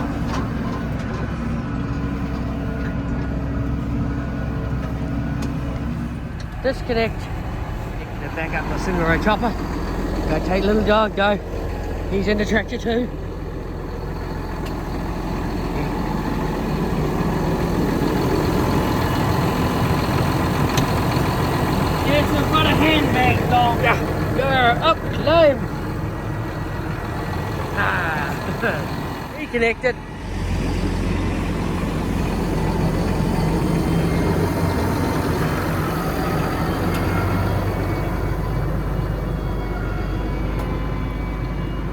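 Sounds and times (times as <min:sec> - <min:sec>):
tractor engine idling: 0:00.0 - 0:41.9.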